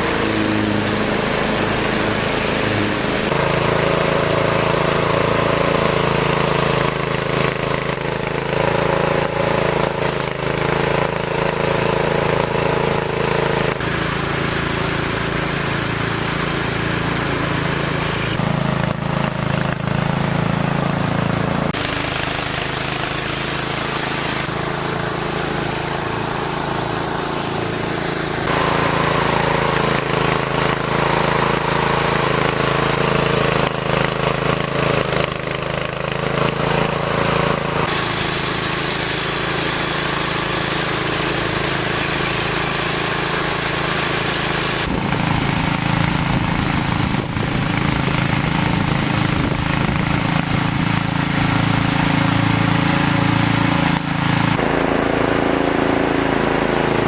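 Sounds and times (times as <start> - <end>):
small engine pulsing: 0.0 - 57.0.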